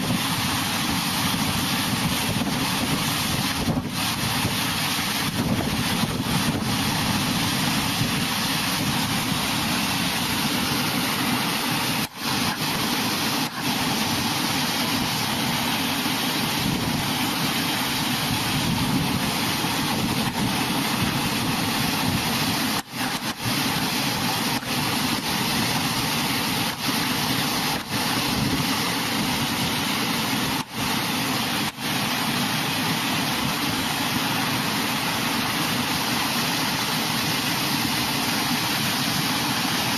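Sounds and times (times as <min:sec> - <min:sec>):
roar of fast-flowing floodwater: 0:00.0 - 0:39.9.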